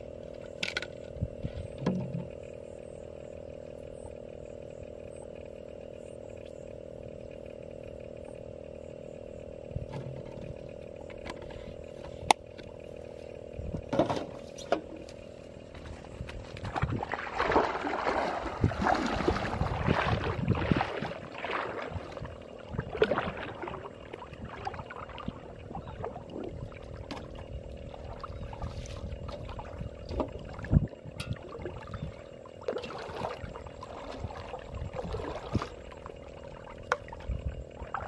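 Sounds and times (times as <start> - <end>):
steady low hum: 0.0 - 38.0
water splashing and sloshing: 0.1 - 2.4, 9.8 - 38.0.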